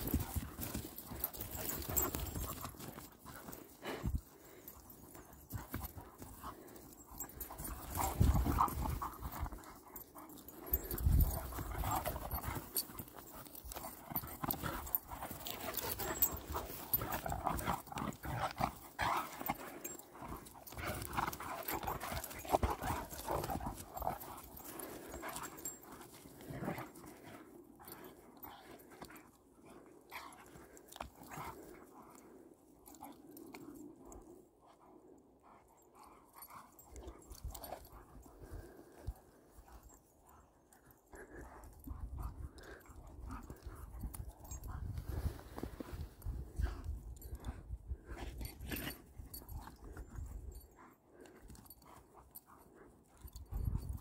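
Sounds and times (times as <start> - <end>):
running paws on grass: 0.0 - 32.4, 36.4 - 50.4
dogs playing: 0.0 - 54.0.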